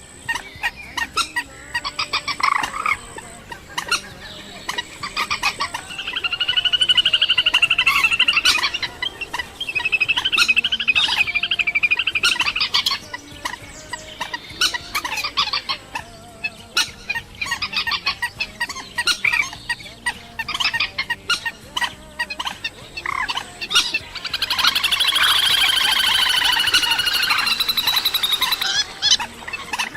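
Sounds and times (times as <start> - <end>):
bird buzzing trills: 0.0 - 29.9
bird clucking and clicking: 0.0 - 29.9.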